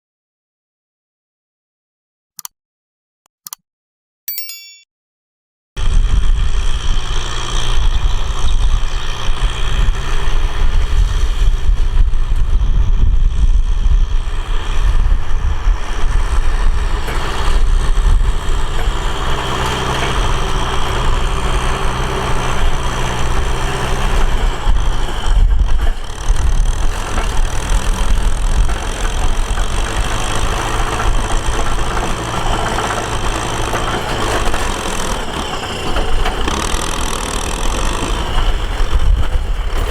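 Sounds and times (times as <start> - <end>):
tractor engine droning: 5.8 - 39.9.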